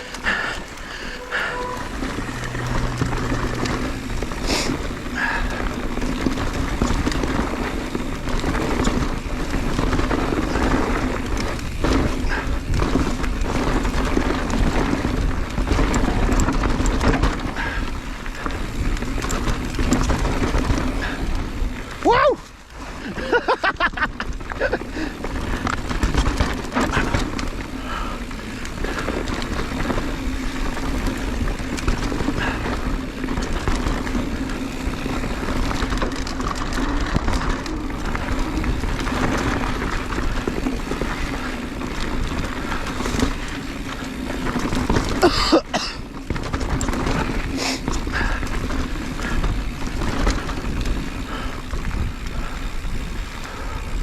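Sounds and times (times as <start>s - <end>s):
bike rattling over rocks: 0.0s - 54.0s
bike tyres rumbling: 0.0s - 54.0s.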